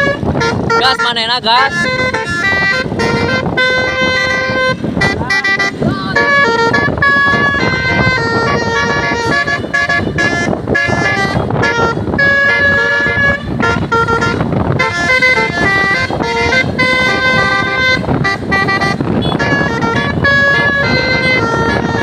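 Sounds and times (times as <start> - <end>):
bus multi-tone horn melody: 0.0 - 22.0
steady low rumble: 0.0 - 22.0.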